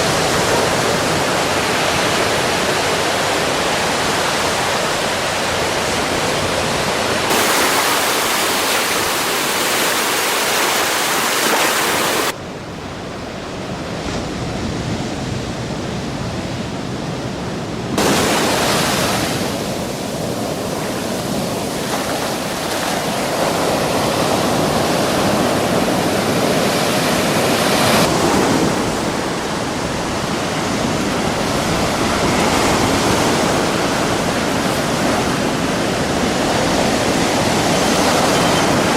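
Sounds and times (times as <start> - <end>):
waves breaking on shore: 0.0 - 12.4, 13.4 - 38.9.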